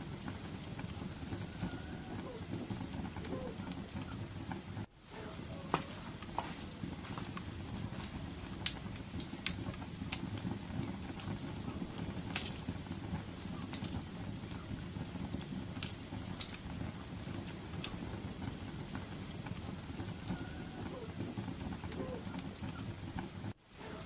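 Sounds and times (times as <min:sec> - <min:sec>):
fire pops and snaps: 0:00.0 - 0:04.9, 0:05.6 - 0:23.6
low rumble of burning fire: 0:00.0 - 0:24.0.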